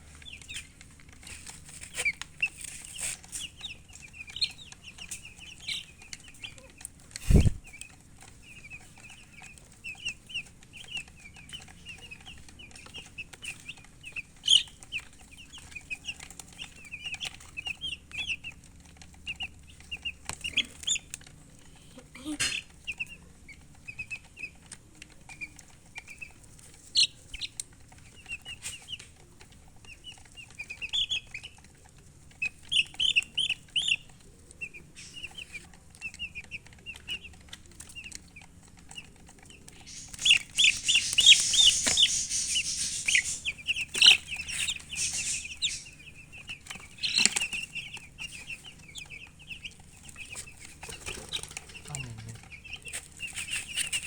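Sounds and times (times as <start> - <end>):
baby chicks peeping: 0.0 - 54.0
rustling: 0.0 - 54.0.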